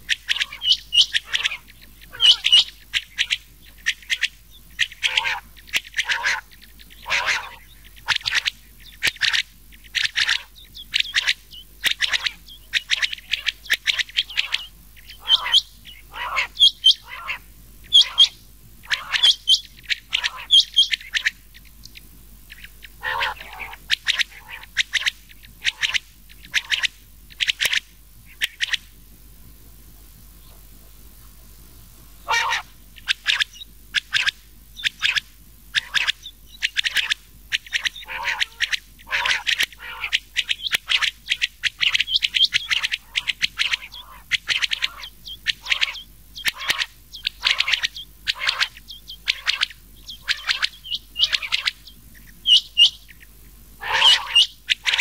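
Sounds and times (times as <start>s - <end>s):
quail calls: 0.0s - 28.9s, 32.2s - 55.0s.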